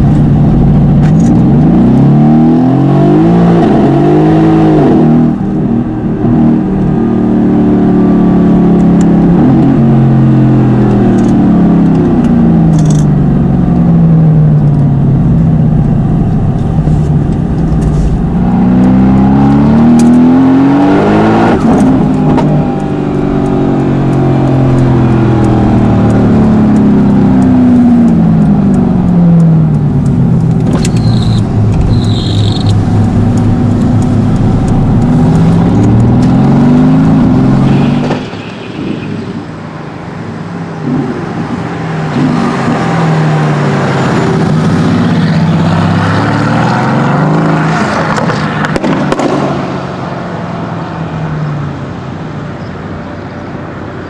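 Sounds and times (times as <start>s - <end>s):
car engine revving: 0.0s - 51.2s.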